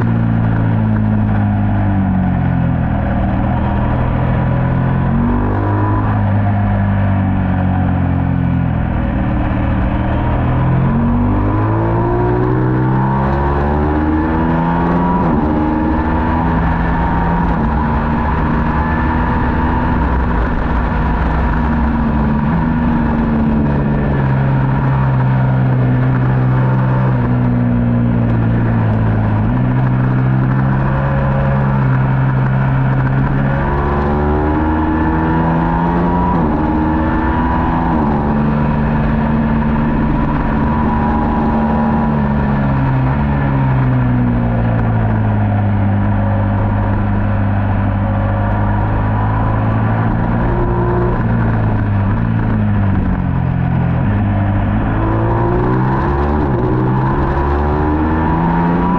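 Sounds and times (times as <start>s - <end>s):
racing motorcycle engine: 0.0s - 58.9s.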